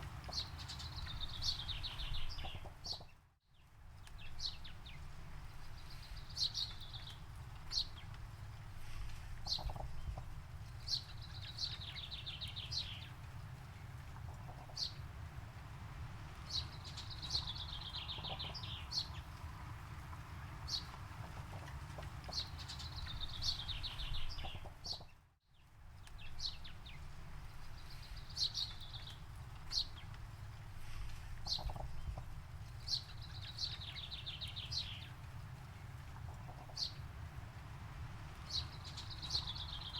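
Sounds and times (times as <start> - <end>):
wild birds singing: 0.0 - 8.6, 9.4 - 25.2, 26.0 - 39.9
low outdoor rumble: 0.0 - 39.9.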